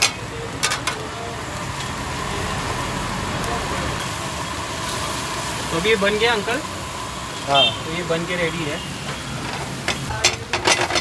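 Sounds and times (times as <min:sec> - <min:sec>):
stove burner flame rushing: 0:00.0 - 0:11.0.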